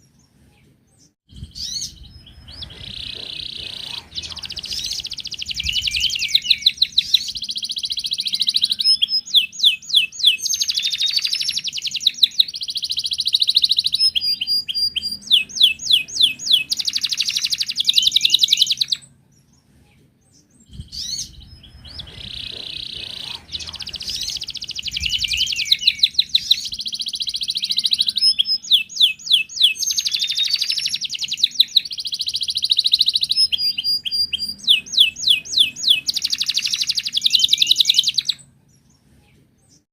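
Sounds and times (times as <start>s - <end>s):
canary singing trills: 1.0s - 19.7s, 20.4s - 39.0s.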